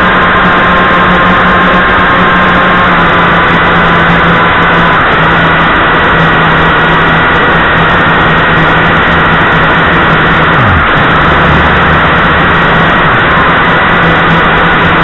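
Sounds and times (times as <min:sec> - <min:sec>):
drone propellers whirring: 0:00.0 - 0:15.0
low hum: 0:00.0 - 0:15.0.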